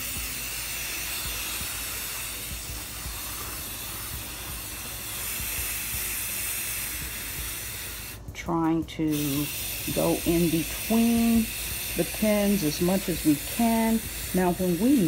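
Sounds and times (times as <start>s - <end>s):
spray paint can hissing: 0.0s - 8.4s, 9.1s - 15.0s.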